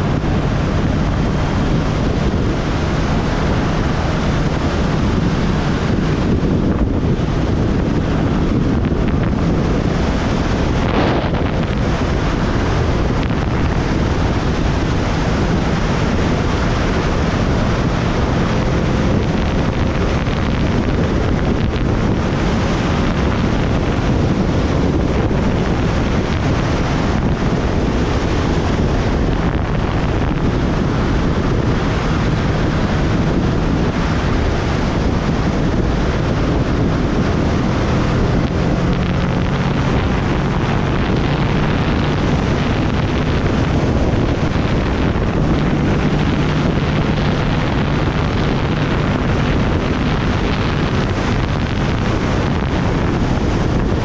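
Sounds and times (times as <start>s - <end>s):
heavy wind noise on microphone: 0.0s - 54.0s.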